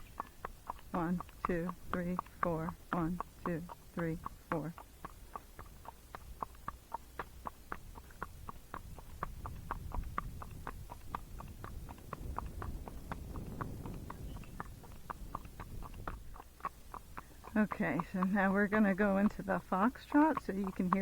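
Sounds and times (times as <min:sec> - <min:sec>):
horse hooves clopping: 0:00.0 - 0:21.0.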